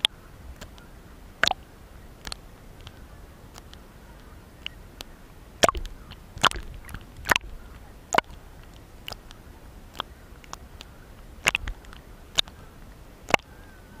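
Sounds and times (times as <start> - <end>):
low wash of water: 0.0 - 14.0
waves splashing: 0.0 - 14.0.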